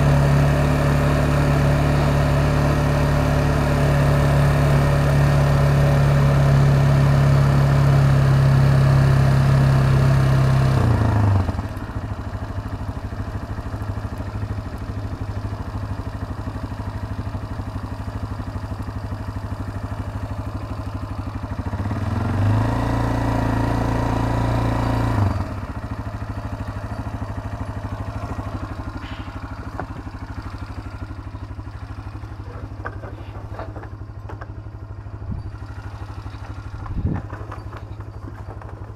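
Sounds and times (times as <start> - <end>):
quad bike engine running: 0.0 - 38.9.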